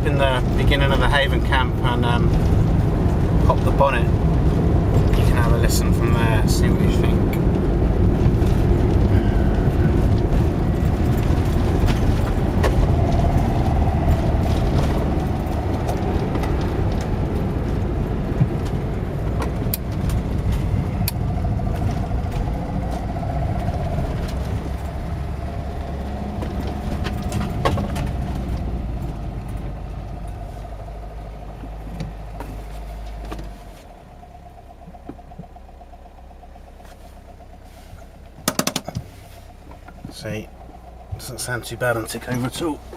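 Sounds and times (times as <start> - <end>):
road noise: 0.0 - 42.9
van engine running: 0.0 - 42.9.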